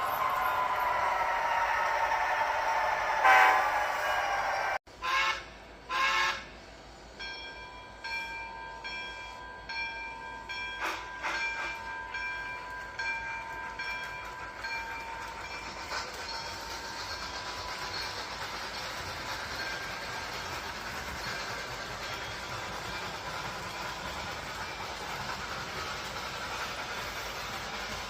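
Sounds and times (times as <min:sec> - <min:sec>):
train bell ringing: 0:00.0 - 0:04.6, 0:07.0 - 0:28.0
train running noise: 0:00.0 - 0:28.0.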